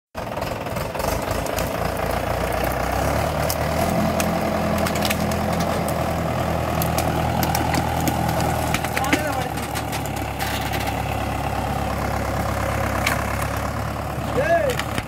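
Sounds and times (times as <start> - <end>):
diesel tractor engine chugging: 0.1 - 15.0.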